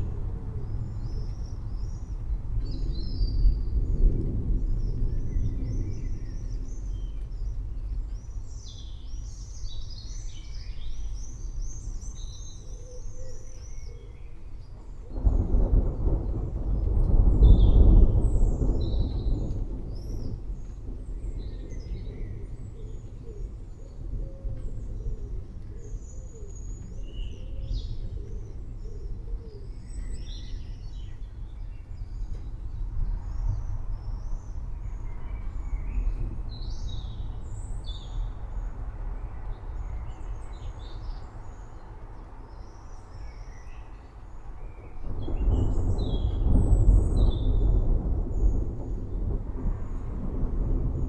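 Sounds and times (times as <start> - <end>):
thunder rumbling: 0.0 - 12.6, 14.4 - 51.0.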